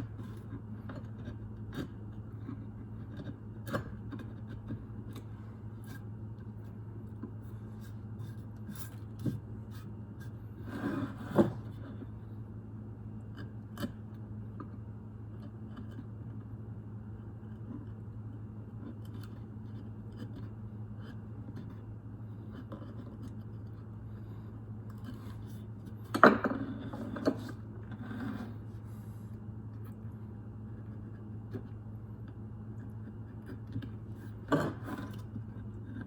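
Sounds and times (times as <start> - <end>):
small clicks and scraping: 0.0 - 12.3, 13.2 - 36.0
electrical hum: 0.0 - 36.0.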